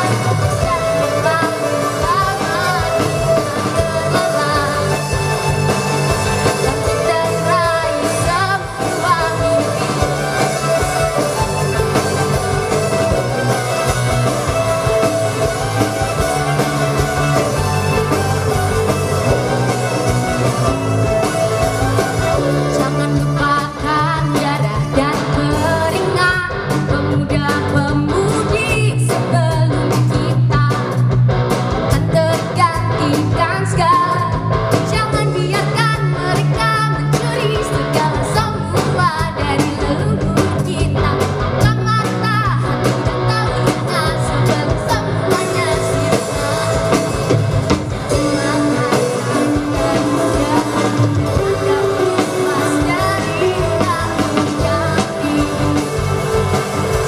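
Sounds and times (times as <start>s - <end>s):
woman singing: 0.0s - 12.5s, 22.0s - 31.1s, 31.9s - 47.5s, 48.1s - 57.0s
live rock band playing: 0.0s - 57.0s.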